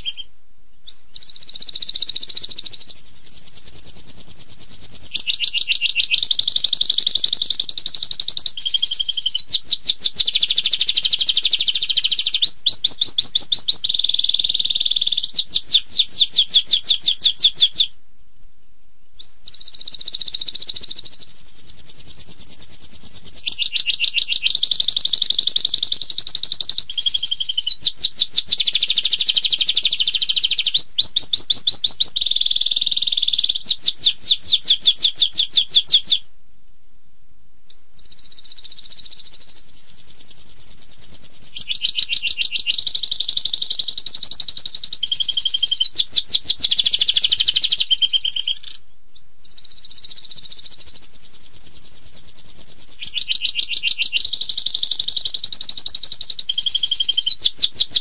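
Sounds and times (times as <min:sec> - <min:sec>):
canary singing: 0:00.0 - 0:18.0, 0:19.2 - 0:36.2, 0:37.7 - 0:58.0.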